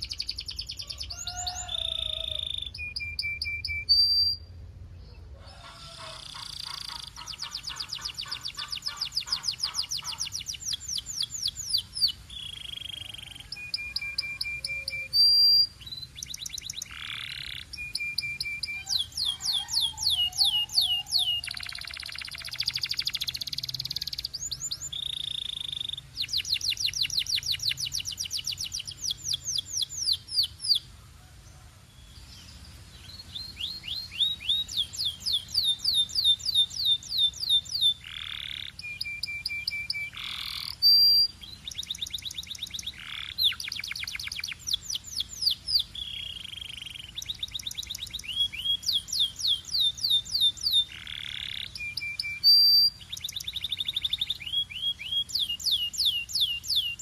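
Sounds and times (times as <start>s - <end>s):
canary singing: 0.0s - 31.0s, 32.0s - 57.0s.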